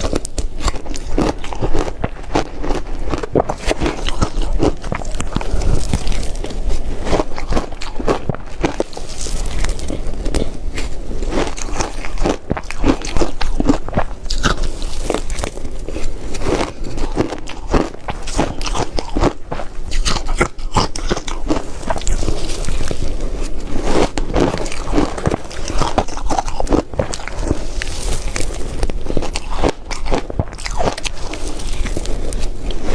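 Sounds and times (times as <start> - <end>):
ice being chewed: 0.0 - 32.9.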